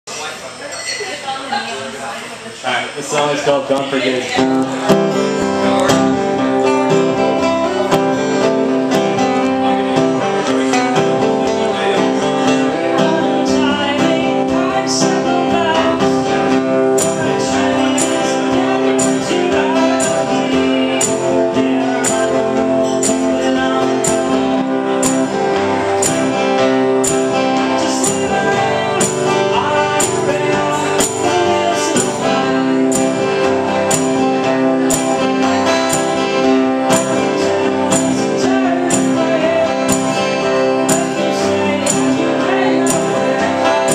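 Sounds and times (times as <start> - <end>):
acoustic guitars strummed: 3.0 - 43.9.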